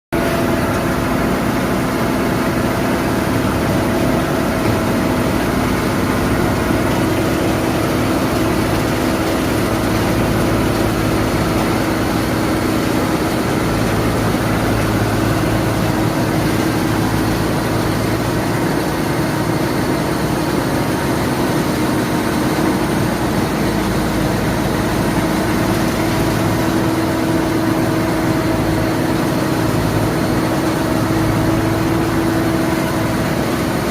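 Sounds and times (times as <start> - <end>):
wood chipper and tractor engine running: 0.2 - 33.9.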